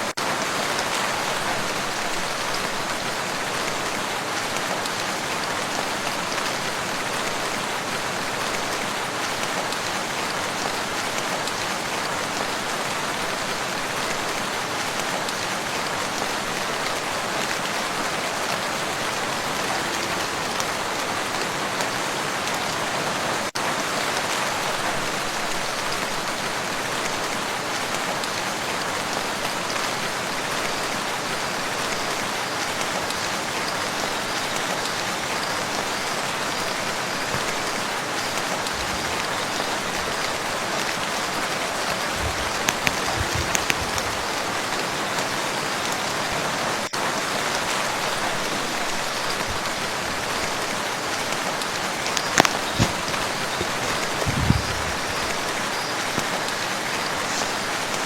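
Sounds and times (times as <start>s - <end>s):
rain falling on a lake: 0.0s - 58.0s.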